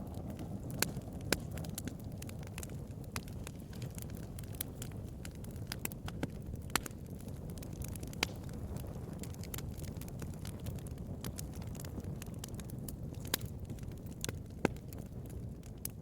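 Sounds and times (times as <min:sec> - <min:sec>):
bonfire burning: 0:00.0 - 0:16.0.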